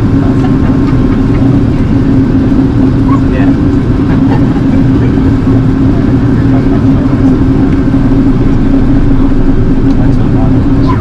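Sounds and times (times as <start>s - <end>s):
airliner cabin engine drone: 0.0s - 11.0s
constant low hum: 0.0s - 11.0s.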